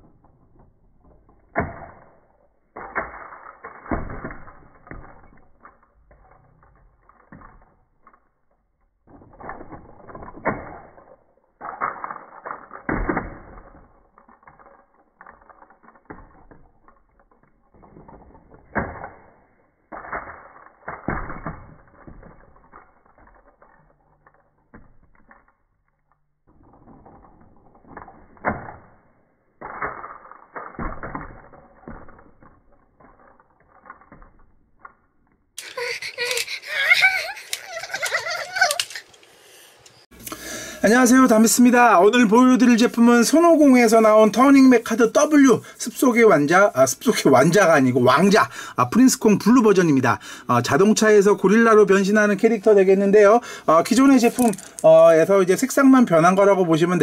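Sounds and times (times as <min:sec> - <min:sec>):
plastic toy car clicking: 0:00.0 - 0:28.9, 0:29.6 - 0:50.2, 0:53.1 - 0:57.0.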